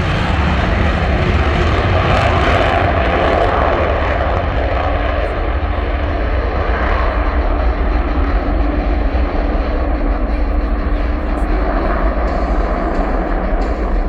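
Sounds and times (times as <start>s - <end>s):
jet roar: 0.0s - 14.0s.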